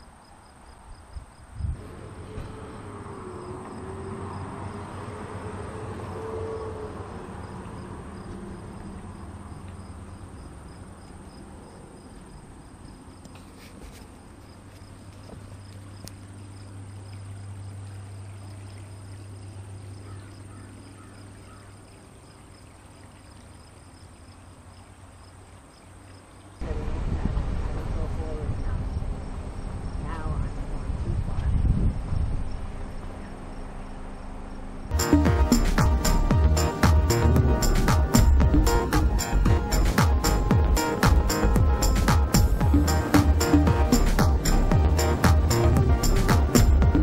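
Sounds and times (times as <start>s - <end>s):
crickets chirping: 0.0s - 26.7s, 31.6s - 47.0s.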